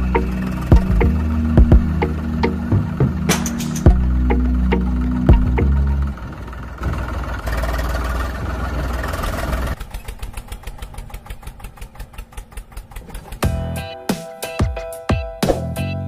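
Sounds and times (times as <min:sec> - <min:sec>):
tractor engine chugging: 0:00.0 - 0:14.0.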